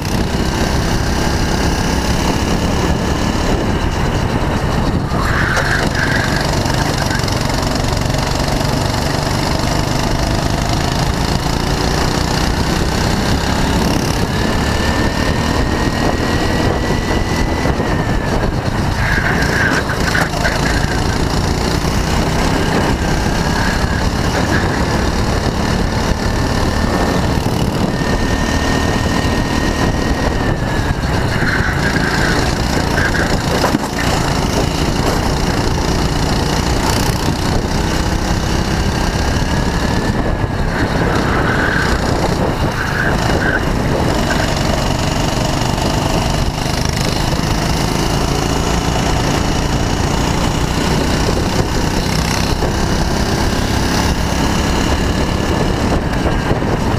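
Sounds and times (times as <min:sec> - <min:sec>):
go-kart engine revving: 0:00.0 - 0:56.9.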